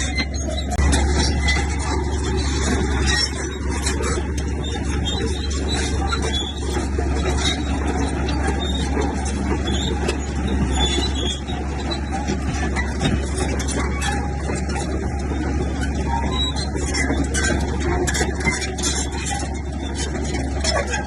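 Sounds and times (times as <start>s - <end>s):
bulldozer diesel engine droning: 0.0s - 21.0s
metallic clanks of running gear: 0.0s - 21.0s.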